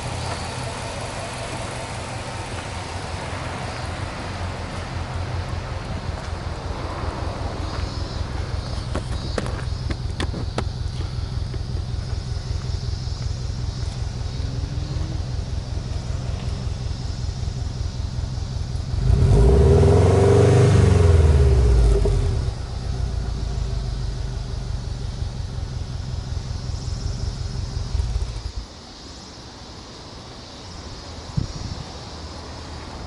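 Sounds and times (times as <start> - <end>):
car engine idling and revving: 0.0 - 29.4.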